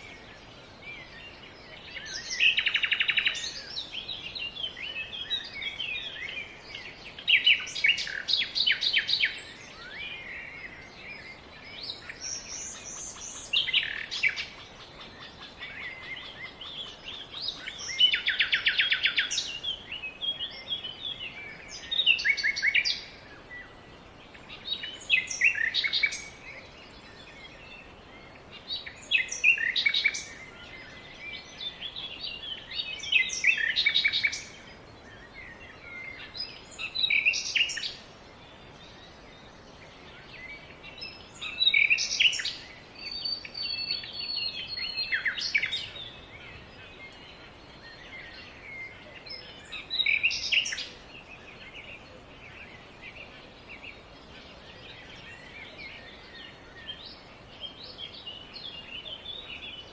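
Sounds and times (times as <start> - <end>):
songbird singing trilled notes: 0.0 - 59.9.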